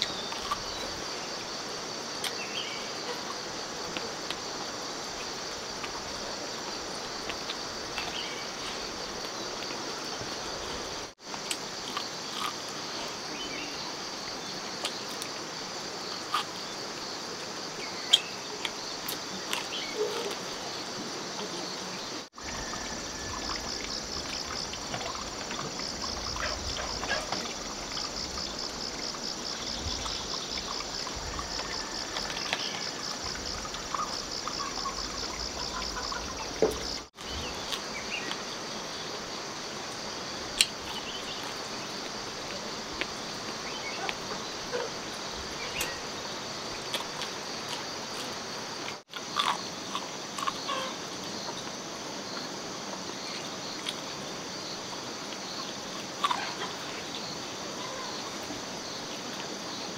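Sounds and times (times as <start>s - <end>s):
insect trilling: 0.0s - 52.5s, 53.1s - 59.2s
running water hiss: 0.0s - 59.9s.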